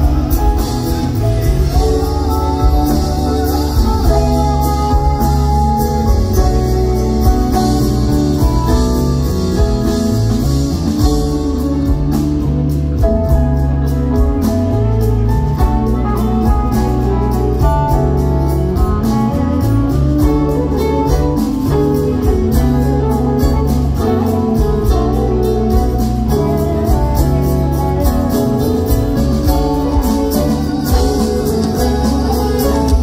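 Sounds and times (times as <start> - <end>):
guitars: 0.0 - 33.0
keyboard: 0.0 - 33.0
walking bass line: 0.0 - 33.0.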